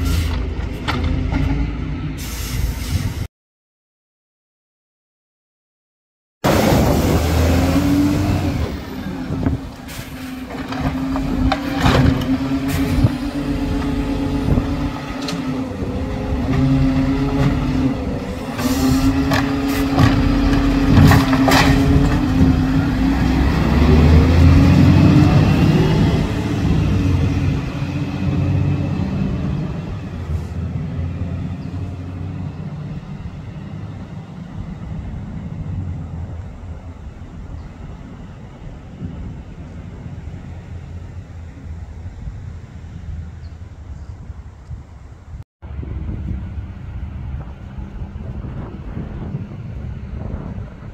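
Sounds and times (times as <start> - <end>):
garbage truck engine and hydraulics: 0.0 - 3.3, 6.4 - 50.9.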